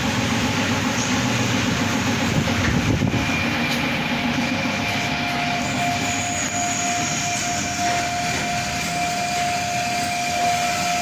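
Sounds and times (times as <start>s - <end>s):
machine drone with whine: 0.0s - 11.0s.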